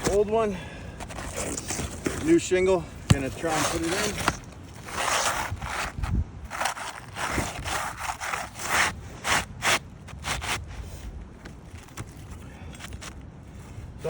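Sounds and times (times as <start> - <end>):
shingle scraping against shingles: 0.0 - 13.8.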